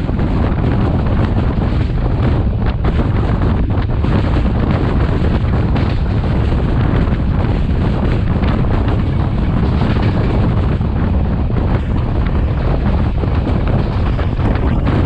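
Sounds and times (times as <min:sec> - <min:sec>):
train engine rumble: 0:00.0 - 0:15.0
wind buffeting microphone: 0:00.0 - 0:15.0.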